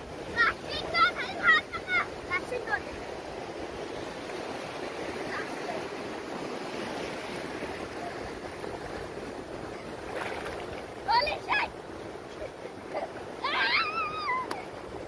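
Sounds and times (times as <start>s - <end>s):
small waves breaking on shore: 0.0s - 15.0s.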